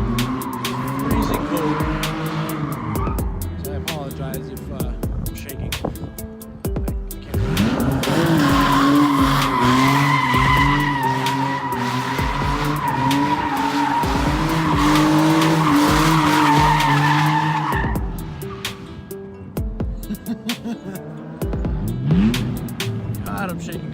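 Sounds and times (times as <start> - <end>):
tyres squealing: 0.0 - 4.7, 7.2 - 23.9
car engine revving: 0.0 - 6.3, 7.0 - 23.9.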